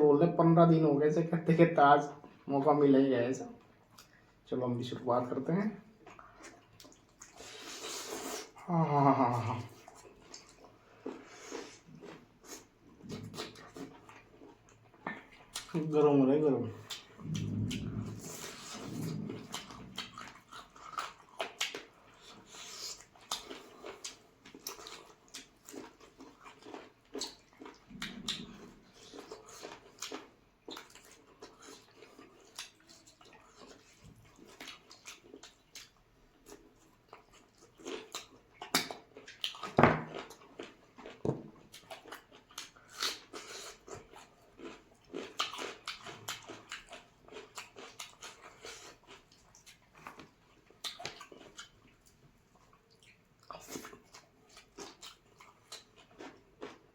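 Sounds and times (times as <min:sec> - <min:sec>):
wet chewing and smacking: 0:03.6 - 0:04.4, 0:05.9 - 0:08.6, 0:09.5 - 0:56.9.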